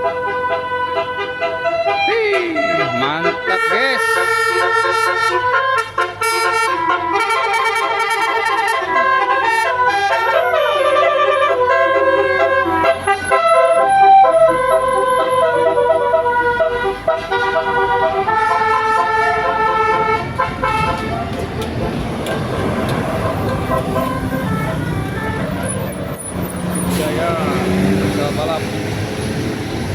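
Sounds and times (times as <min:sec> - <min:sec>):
bus musical horn playing a tune: 0:00.0 - 0:29.9.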